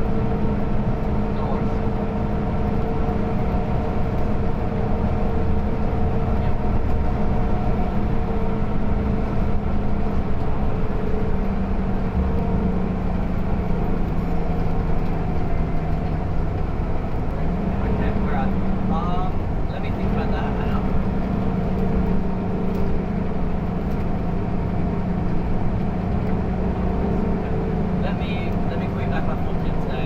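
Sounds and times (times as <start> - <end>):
bus engine humming: 0.0 - 30.0.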